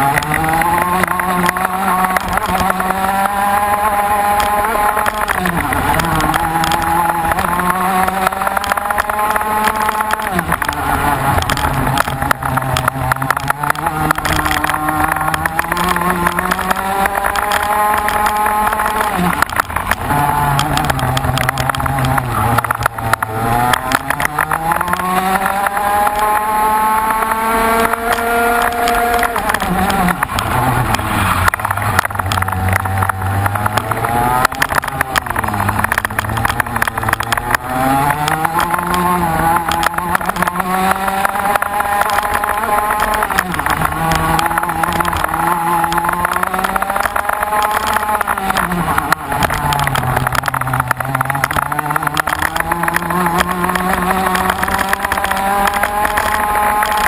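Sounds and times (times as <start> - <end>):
racing engine revving: 0.0 - 57.0.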